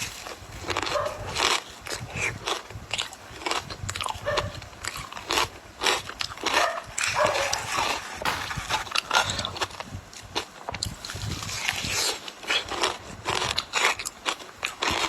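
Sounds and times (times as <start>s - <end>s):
ice being chewed: 0.0s - 8.2s, 9.3s - 15.0s.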